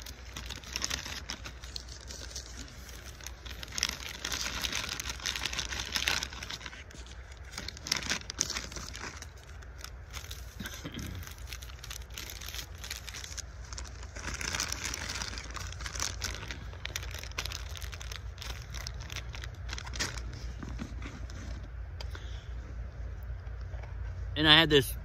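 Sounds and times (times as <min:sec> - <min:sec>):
plastic bags rustling: 0:00.0 - 0:21.6
steady low rumble: 0:00.0 - 0:25.0.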